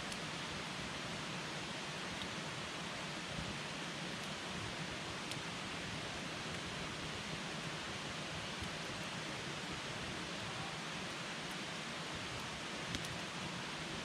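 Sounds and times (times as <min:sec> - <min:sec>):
campfire burning with crackles: 0:00.0 - 0:14.0.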